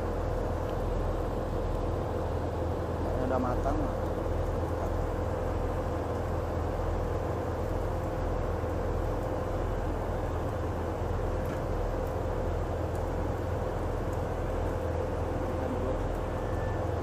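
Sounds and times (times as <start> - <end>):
low machinery drone: 0.0 - 17.0
mid-pitched hum: 0.0 - 17.0.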